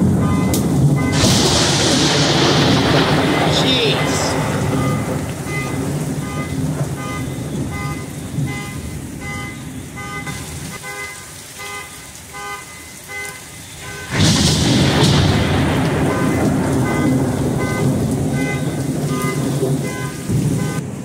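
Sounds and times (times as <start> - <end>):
rush of storm noise: 0.0 - 10.8, 13.8 - 21.0
car alarm beeping: 0.0 - 21.0
heavy rain falling: 0.0 - 21.0.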